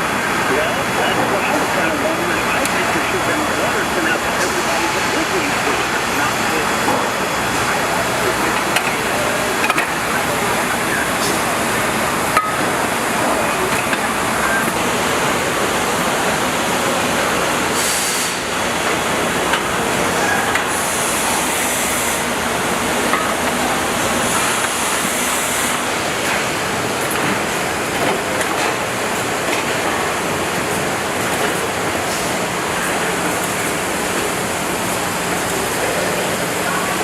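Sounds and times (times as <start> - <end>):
factory machinery noise: 0.0 - 37.0.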